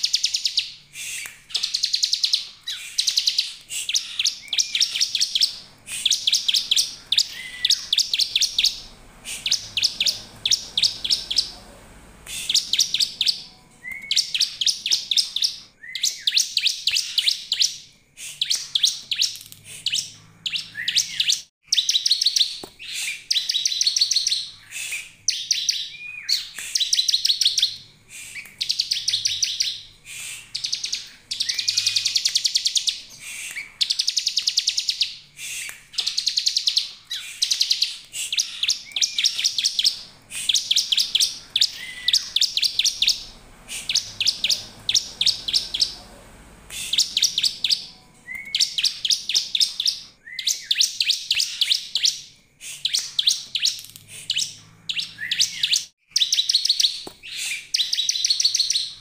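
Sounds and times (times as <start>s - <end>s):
bird singing high ticking notes: 0.0s - 59.0s.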